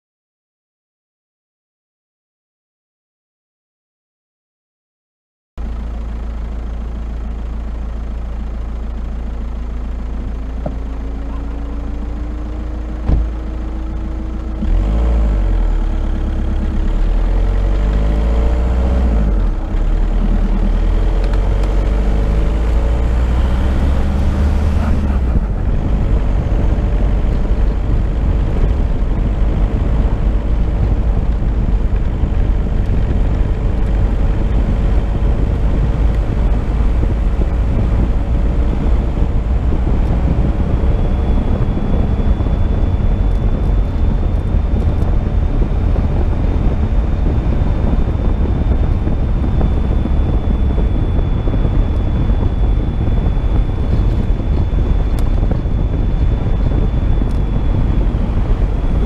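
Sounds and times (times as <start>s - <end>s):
car engine running: 5.6s - 59.0s
road rumble and wind: 5.6s - 59.0s.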